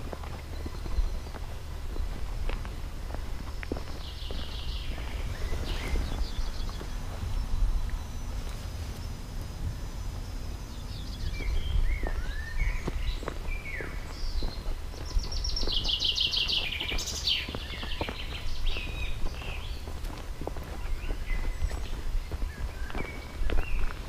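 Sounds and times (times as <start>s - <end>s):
low steady rumble: 0.0s - 23.9s
songbirds singing: 0.0s - 24.0s.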